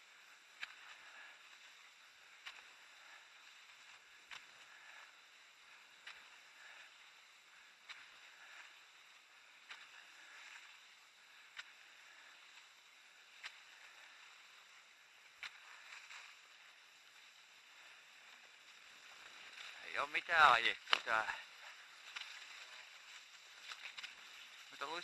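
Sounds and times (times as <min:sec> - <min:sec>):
skis gliding on icy tracks: 0:00.0 - 0:25.0.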